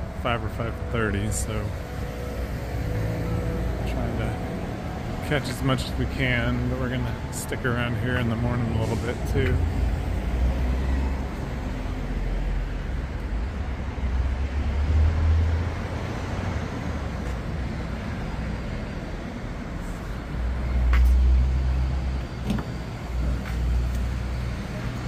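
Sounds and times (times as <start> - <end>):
cars passing slowly: 0.0 - 25.0.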